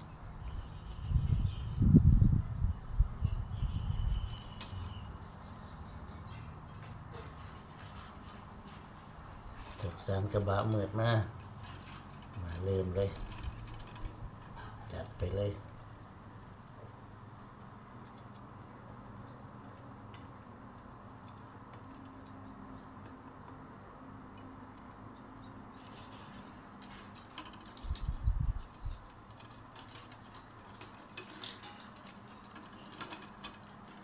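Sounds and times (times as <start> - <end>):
bamboo strips clicking and rustling: 0.0 - 34.0.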